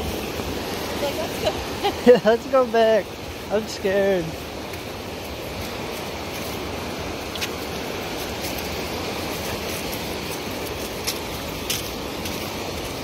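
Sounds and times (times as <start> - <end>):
waves washing onto shore: 0.0 - 13.0.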